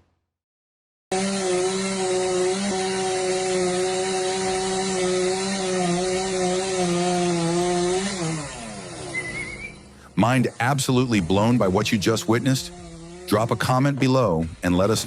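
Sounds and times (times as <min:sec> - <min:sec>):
chainsaw engine at high revs: 0:01.1 - 0:15.0.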